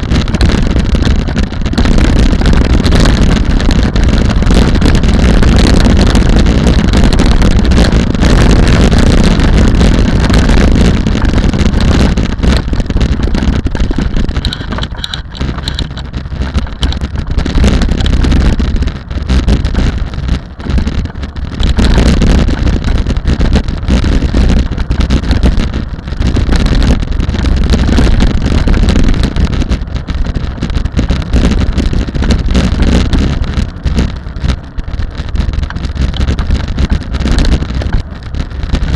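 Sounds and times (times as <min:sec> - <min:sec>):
rally car engine running hard: 0:00.0 - 0:38.9
wind noise on microphone: 0:00.0 - 0:38.9.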